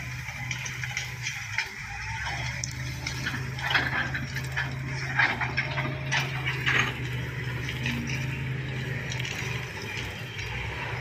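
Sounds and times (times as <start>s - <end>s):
brush crackling and clatter: 0.0s - 11.0s
heavy diesel engines running: 0.0s - 11.0s.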